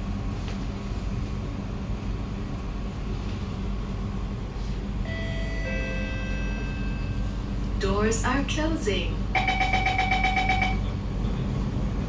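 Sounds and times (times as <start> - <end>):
train carriage low hum: 0.0 - 12.0.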